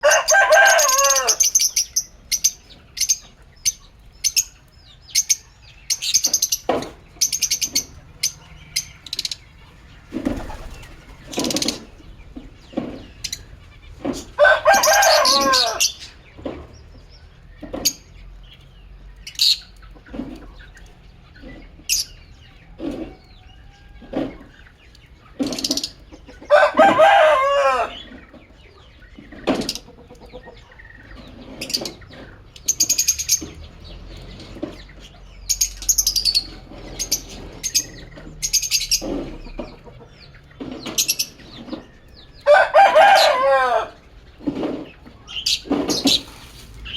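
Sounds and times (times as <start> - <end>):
lovebirds chirping: 0.0 - 46.9
lovebirds shrill chattering: 0.0 - 46.9.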